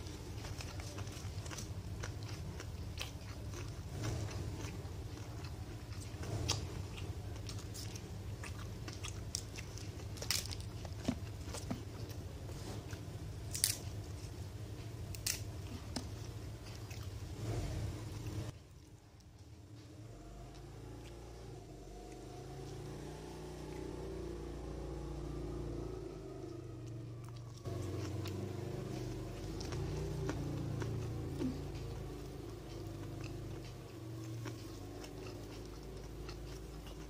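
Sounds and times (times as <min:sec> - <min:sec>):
chewing crisp food: 0:00.0 - 0:37.0
steady low hum: 0:00.0 - 0:37.0.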